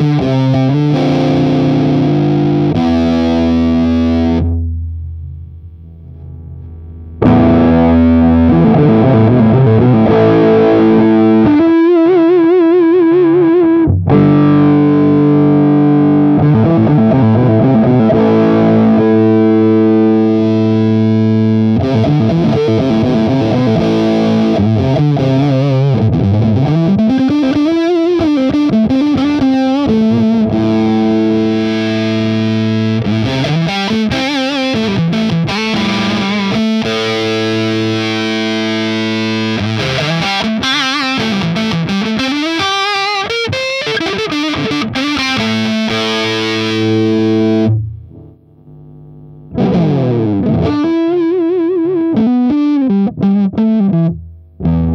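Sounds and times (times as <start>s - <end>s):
fuzz electric guitar: 0.0s - 54.9s.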